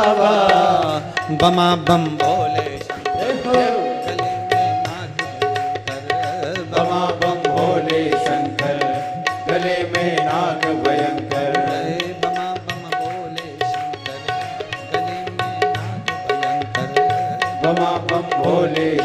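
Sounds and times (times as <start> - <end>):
tabla quick rhythm: 0.0 - 19.0.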